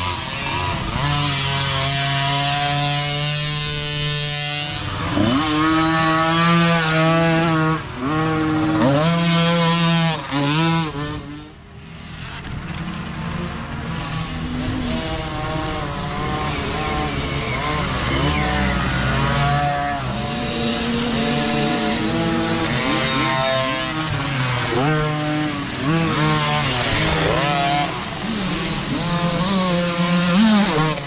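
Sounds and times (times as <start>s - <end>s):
dirt bike engine revving: 0.0s - 31.0s
distant dirt bikes revving: 0.0s - 31.0s.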